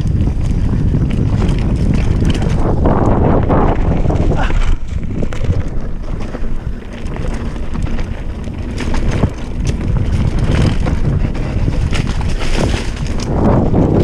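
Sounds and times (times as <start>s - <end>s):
bike knocks and rattles: 0.0s - 14.0s
bike tyre noise: 0.0s - 14.0s
wind buffeting microphone: 0.0s - 14.0s.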